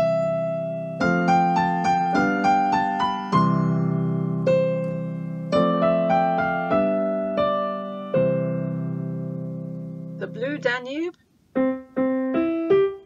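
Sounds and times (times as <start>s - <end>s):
digital piano melody over chords: 0.0s - 10.7s, 11.5s - 13.0s.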